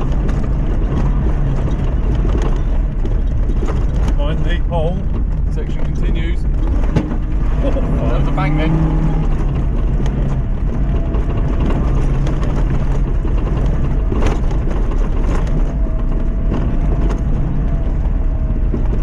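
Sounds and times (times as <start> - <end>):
car engine running under load: 0.0 - 19.0
car knocking and clattering: 0.0 - 19.0.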